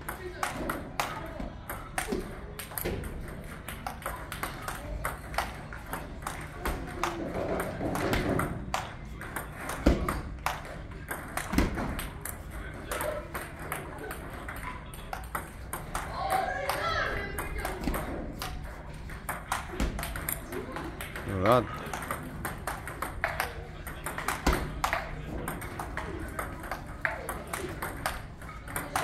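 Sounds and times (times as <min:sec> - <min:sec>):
table tennis balls clicking: 0:00.0 - 0:29.0.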